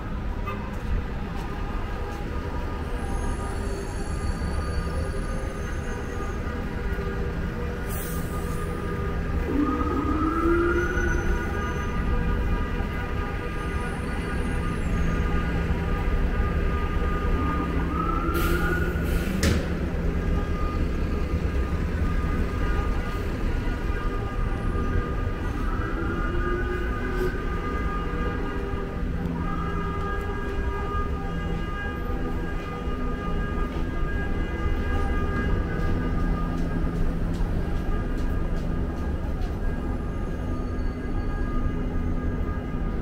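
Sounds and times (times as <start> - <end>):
traffic rumble: 0.0 - 43.0
vehicles whining pulling away: 2.7 - 40.5.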